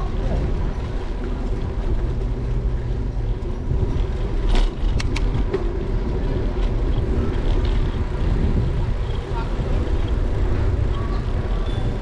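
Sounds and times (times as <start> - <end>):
wind and tyre rumble: 0.0 - 12.0.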